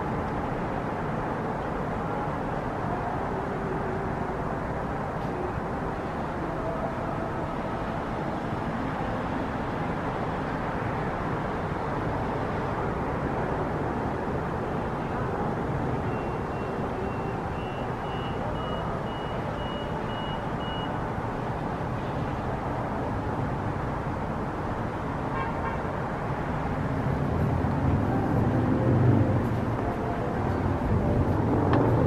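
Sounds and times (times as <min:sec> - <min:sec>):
distant road traffic hum: 0:00.0 - 0:32.0.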